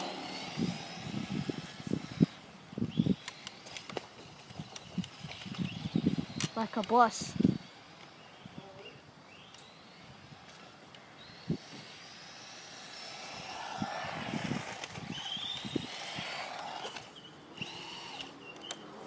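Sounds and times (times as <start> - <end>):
electric motor whining: 0.0 - 8.2, 9.4 - 19.0.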